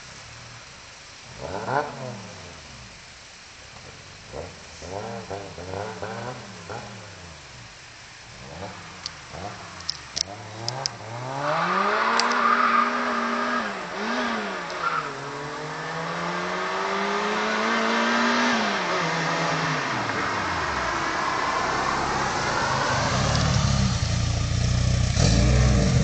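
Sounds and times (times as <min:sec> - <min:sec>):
supercharged car engine revving: 0:01.3 - 0:03.0, 0:04.2 - 0:26.0.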